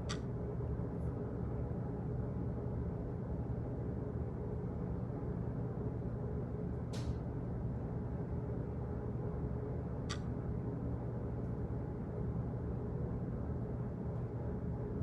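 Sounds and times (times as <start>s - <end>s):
office background hum: 0.0s - 15.0s.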